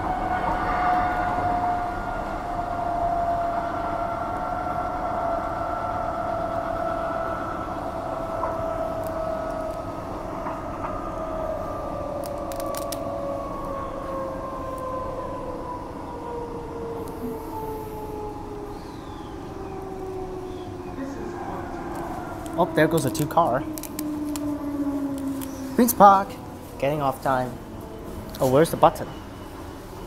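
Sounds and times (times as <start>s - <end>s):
train motor whine: 0.0s - 30.0s
wheels rumbling on track: 0.0s - 30.0s.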